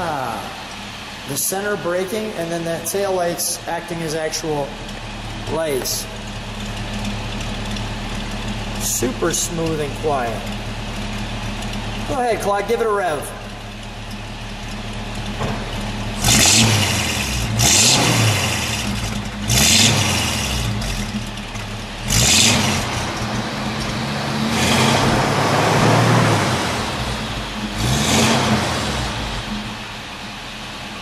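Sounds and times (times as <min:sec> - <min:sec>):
car engine idling: 0:00.0 - 0:31.0
engine throttle blips: 0:00.0 - 0:31.0.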